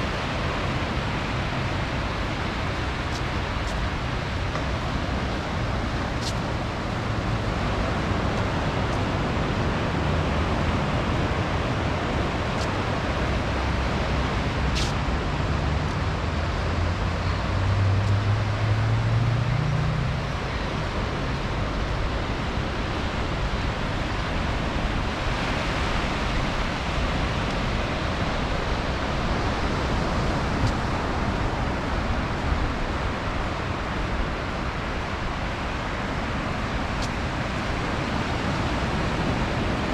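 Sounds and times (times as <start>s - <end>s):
low engine hum: 0.0s - 39.9s
ocean surf on a beach: 0.0s - 39.9s.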